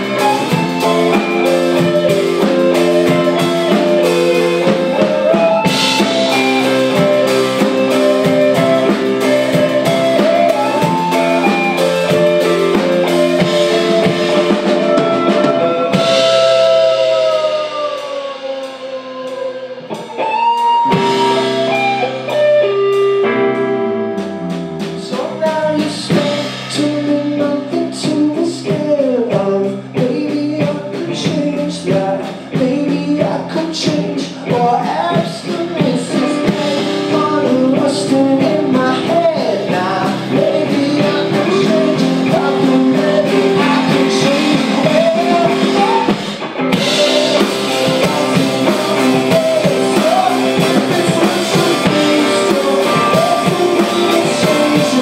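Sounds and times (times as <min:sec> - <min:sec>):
lead singer singing: 0:00.0 - 0:23.0, 0:24.8 - 0:55.0
live rock band playing: 0:00.0 - 0:55.0.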